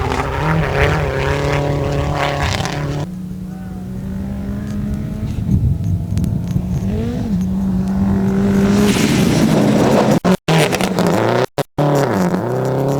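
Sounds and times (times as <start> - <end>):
rally car engine running hard: 0.0 - 12.9
tyre and road noise: 0.0 - 12.9.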